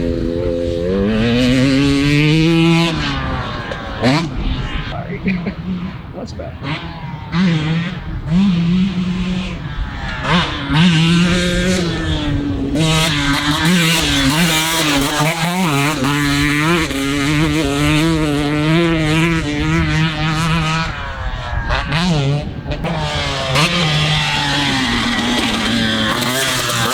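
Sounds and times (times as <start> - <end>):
motocross bike engine revving: 0.0 - 26.9.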